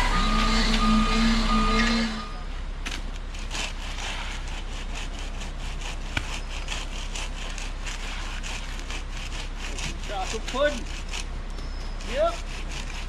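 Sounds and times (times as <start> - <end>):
low engine hum: 0.0 - 13.0
screed scraping wet concrete: 0.0 - 13.0.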